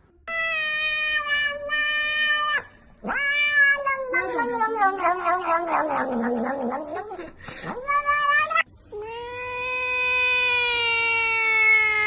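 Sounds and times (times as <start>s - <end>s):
cat yowling: 0.3s - 12.0s.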